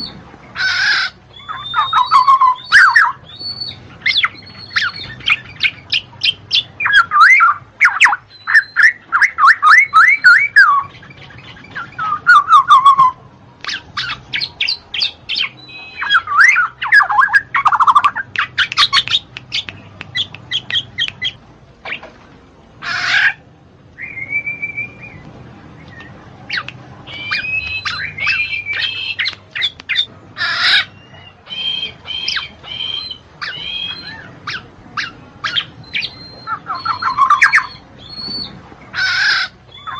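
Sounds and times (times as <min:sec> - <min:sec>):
bird calling in sharp notes: 0:00.0 - 0:22.0, 0:22.8 - 0:39.9
harsh bird squawks: 0:00.0 - 0:22.0, 0:22.8 - 0:23.5, 0:26.5 - 0:39.9.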